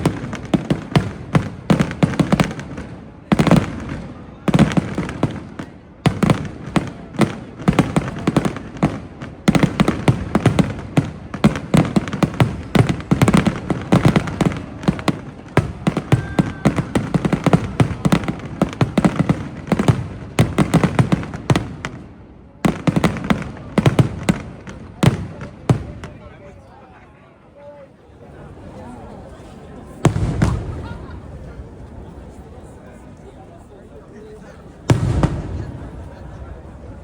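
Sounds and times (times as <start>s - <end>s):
fireworks bangs and crackles: 0.0s - 26.6s, 29.8s - 33.7s, 34.3s - 37.0s.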